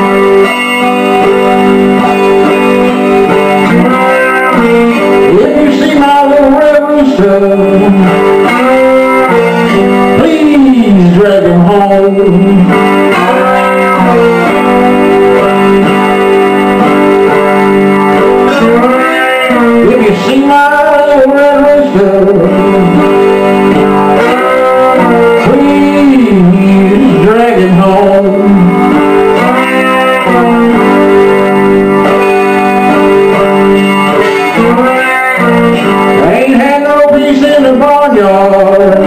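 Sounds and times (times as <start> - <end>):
slide electric guitar blues solo: 0.0 - 39.0.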